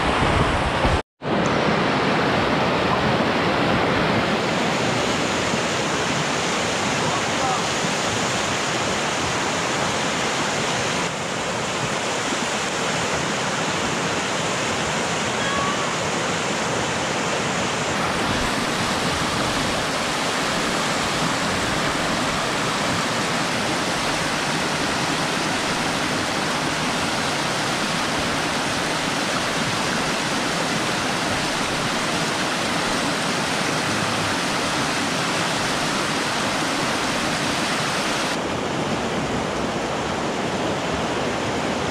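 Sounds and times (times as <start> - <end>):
whitewater rushing: 0.0 - 41.9.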